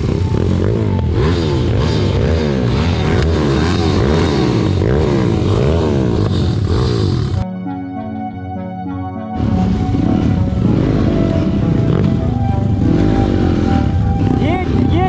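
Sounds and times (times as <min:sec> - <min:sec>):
motorbike engine revving: 0:00.0 - 0:07.4, 0:09.4 - 0:15.0
rock music: 0:00.0 - 0:15.0.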